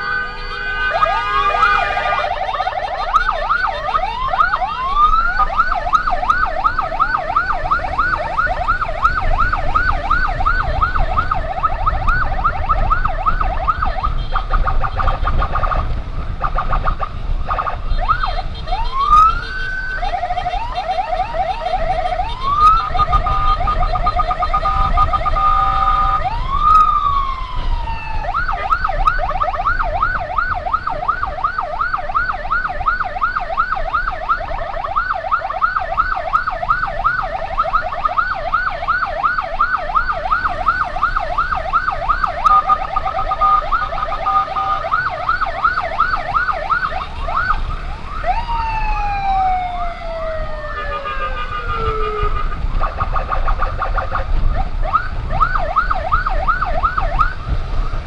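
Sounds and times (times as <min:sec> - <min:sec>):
electronic emergency siren: 0:00.0 - 0:58.0.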